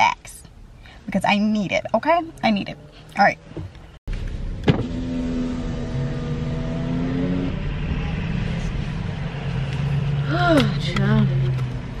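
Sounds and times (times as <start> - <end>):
car engine hum inside cabin: 1.2 - 12.0.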